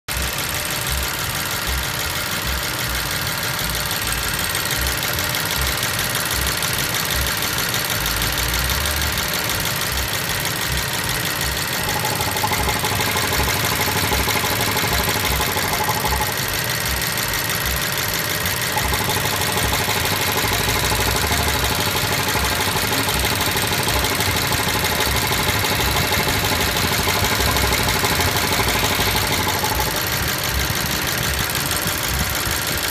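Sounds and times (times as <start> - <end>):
car engine idling: 0.2 - 32.9
valvetrain ticking: 6.4 - 32.9.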